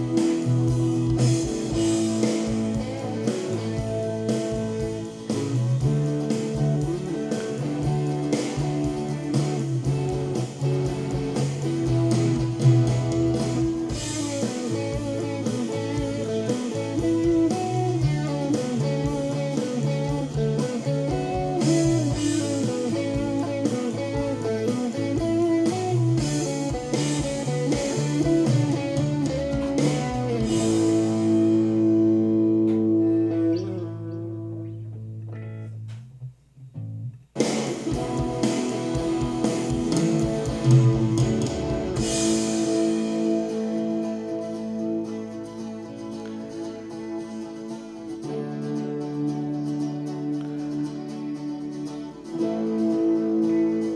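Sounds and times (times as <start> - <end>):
bass guitar: 0.0 - 53.9
drums: 0.0 - 53.9
electric guitar: 0.0 - 53.9.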